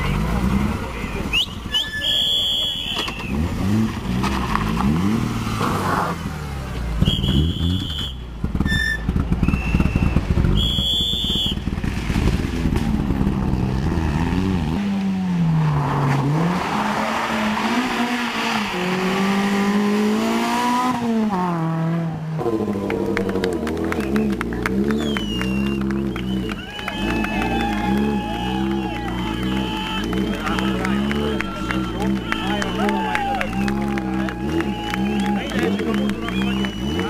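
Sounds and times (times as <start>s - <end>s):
rally car engines revving: 0.0s - 37.0s.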